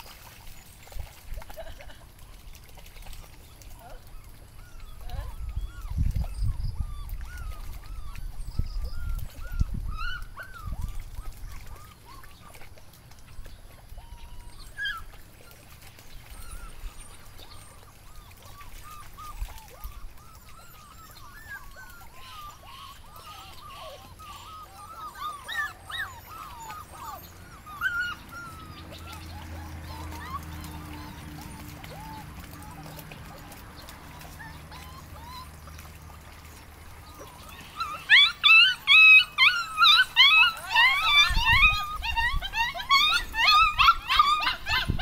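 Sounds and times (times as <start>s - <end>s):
puppies squeaking and whimpering: 0.0s - 45.0s.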